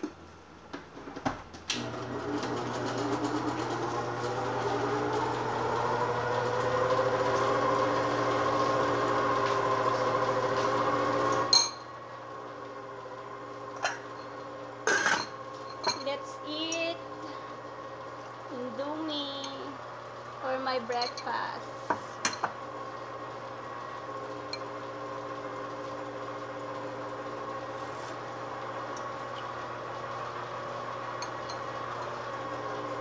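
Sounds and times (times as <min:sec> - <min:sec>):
small appliance motor humming: 0:01.7 - 0:33.0.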